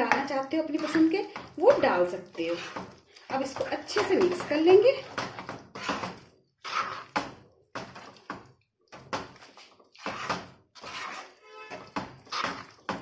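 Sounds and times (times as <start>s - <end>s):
spatula scraping sticky mixture: 0.0s - 13.0s.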